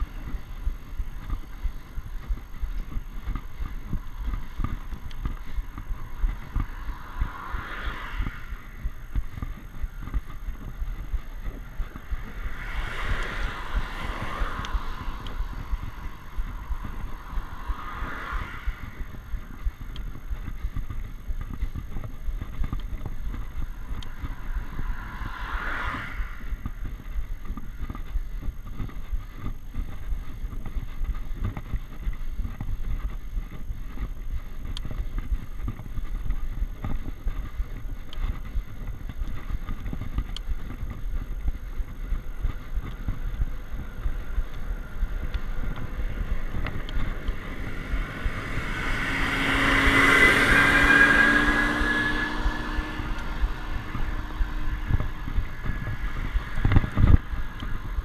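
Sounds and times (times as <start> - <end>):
bicycle tyre and road noise: 0.0 - 58.0
motor vehicle approaching: 0.0 - 58.0
wind buffeting microphone: 0.0 - 58.0.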